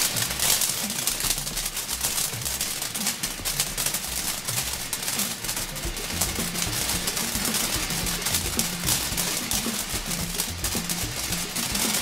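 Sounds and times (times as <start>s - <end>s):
background music: 0.0s - 12.0s
firework crackling: 0.0s - 12.0s.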